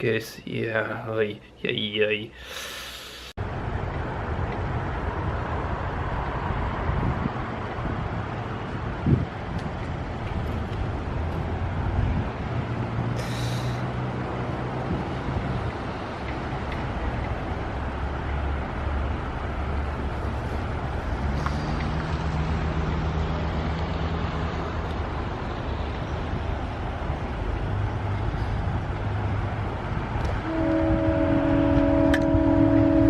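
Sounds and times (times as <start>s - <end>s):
vehicle rumble: 2.7s - 33.0s
low engine hum: 3.4s - 33.0s.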